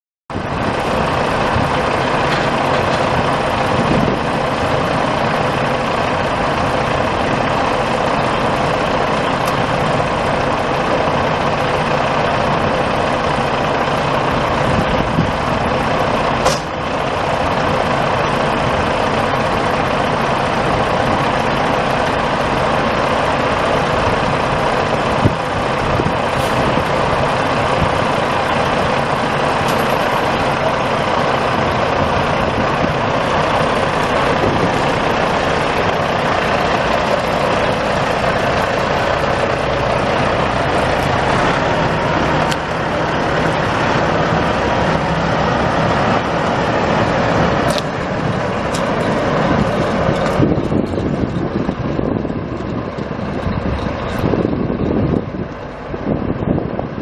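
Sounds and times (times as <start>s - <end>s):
diesel truck engine idling: 0.3s - 57.0s.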